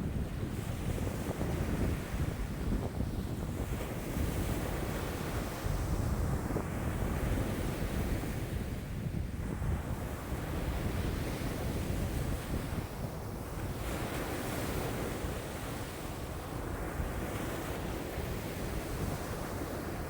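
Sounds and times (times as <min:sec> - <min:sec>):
waves washing and breaking: 0:00.0 - 0:20.0
wind buffeting microphone: 0:00.0 - 0:20.0.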